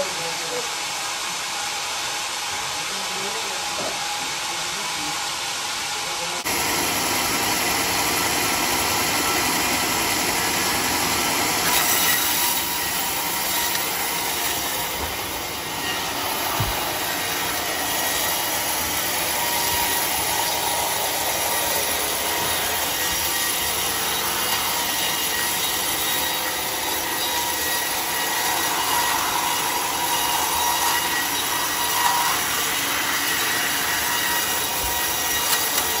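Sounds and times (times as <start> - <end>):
band sawmill cutting log: 0.0 - 36.0.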